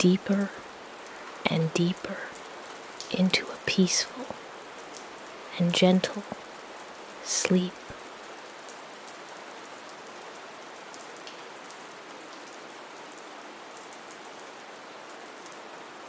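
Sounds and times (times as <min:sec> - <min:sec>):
soft rain falling: 0:00.0 - 0:16.0.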